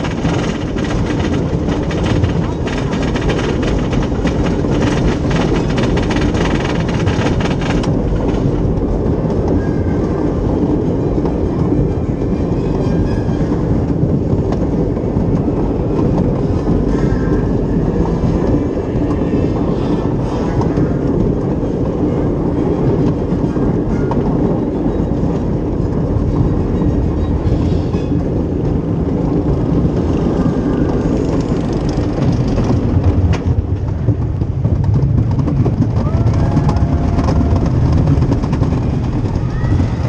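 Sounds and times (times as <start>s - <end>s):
roller coaster chain lift rattling: 0.0s - 40.0s.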